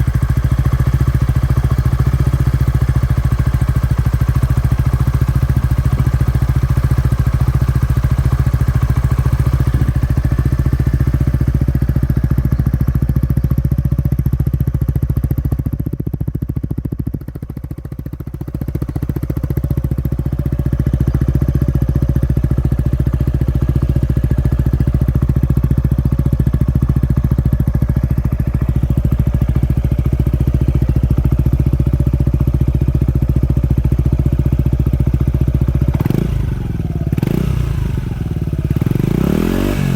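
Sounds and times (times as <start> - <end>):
scooter engine running steadily: 0.0 - 39.9.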